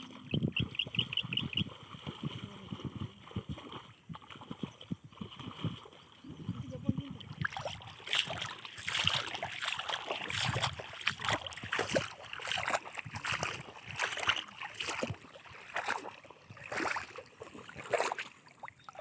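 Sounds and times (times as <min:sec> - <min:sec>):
water splashing in a river: 0:00.0 - 0:19.0.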